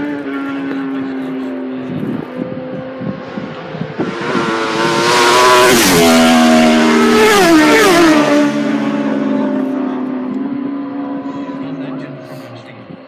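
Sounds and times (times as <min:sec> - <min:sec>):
racing motorcycle passing by: 0:00.0 - 0:12.7.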